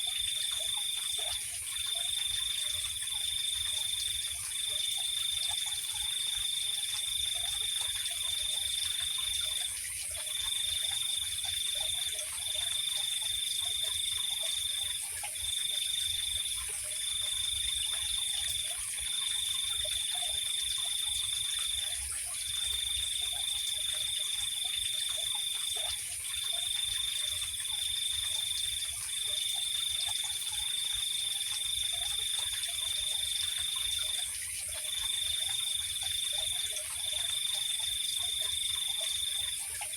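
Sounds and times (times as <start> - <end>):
high-pitched cricket trill: 0.0 - 39.9.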